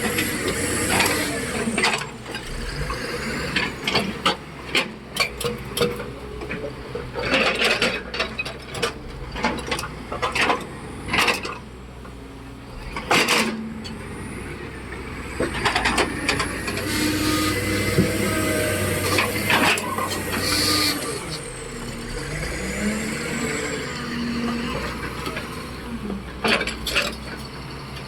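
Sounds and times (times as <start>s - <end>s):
diesel engine hum: 0.0s - 28.0s.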